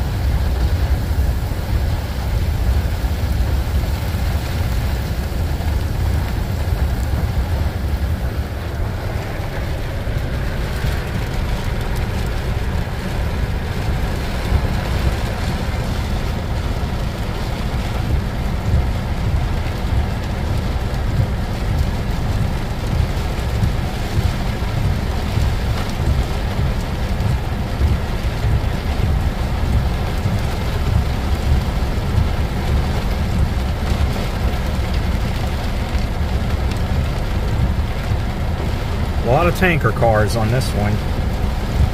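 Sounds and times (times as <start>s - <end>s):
heavy rain on car roof: 0.0s - 41.9s.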